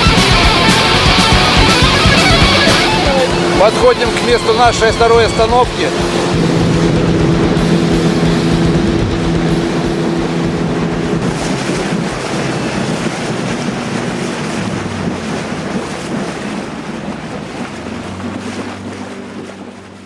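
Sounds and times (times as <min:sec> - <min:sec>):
boat motor running: 0:00.0 - 0:20.0
rushing water: 0:00.0 - 0:20.0
wind buffeting microphone: 0:00.0 - 0:20.0.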